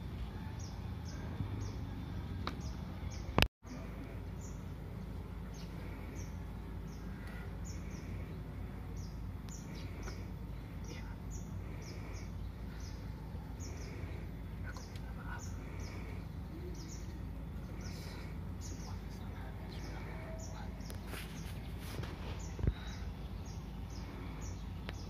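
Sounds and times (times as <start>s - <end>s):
birds chirping: 0.0s - 25.0s
low background rumble: 0.0s - 25.0s.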